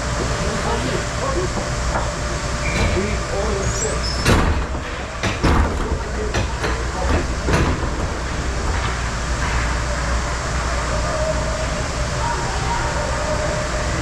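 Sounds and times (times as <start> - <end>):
low arena rumble: 0.0 - 14.0.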